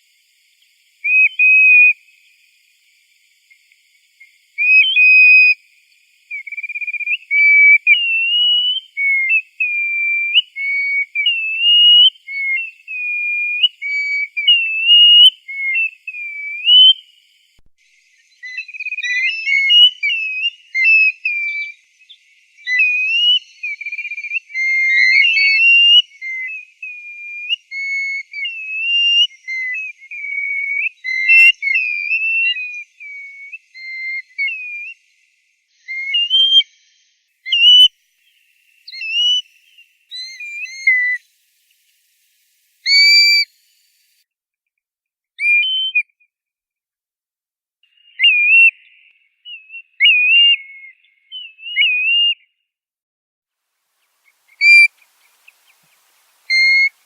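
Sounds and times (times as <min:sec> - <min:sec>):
plovers whistling calls: 0:01.0 - 0:02.1, 0:04.2 - 0:05.6, 0:06.2 - 0:17.3, 0:18.1 - 0:44.1, 0:45.4 - 0:46.2, 0:47.9 - 0:52.5, 0:54.2 - 0:57.0.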